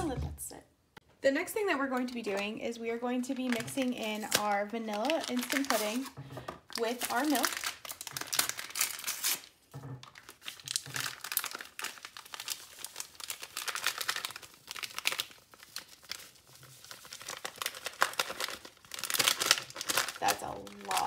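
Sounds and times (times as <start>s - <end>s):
plastic pouch crinkling and tearing: 3.3s - 21.0s.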